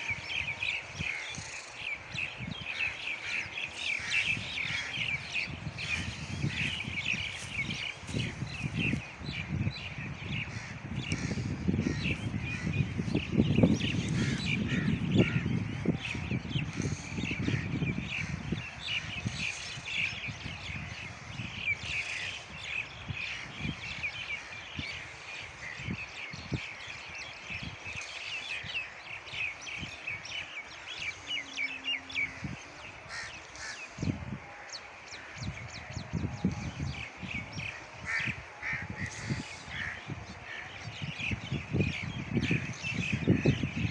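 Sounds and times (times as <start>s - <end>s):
birds chirping and calling: 0.0s - 43.9s.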